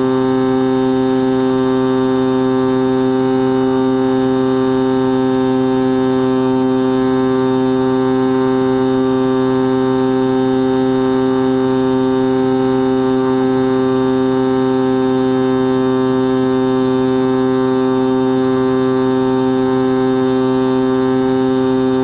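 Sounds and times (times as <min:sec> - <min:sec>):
electric motor and propeller buzzing: 0:00.0 - 0:22.0.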